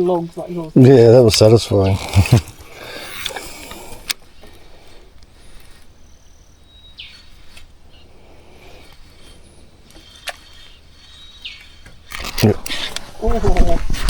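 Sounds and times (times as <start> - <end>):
high bird calls: 1.6 - 13.0.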